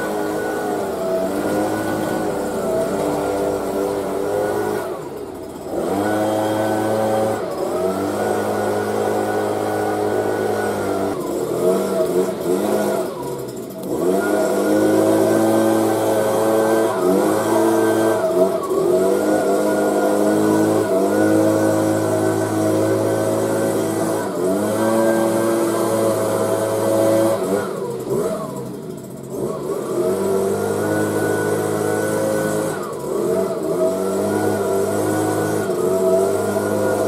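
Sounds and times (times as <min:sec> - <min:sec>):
leaf blower engine running: 0:00.0 - 0:37.0.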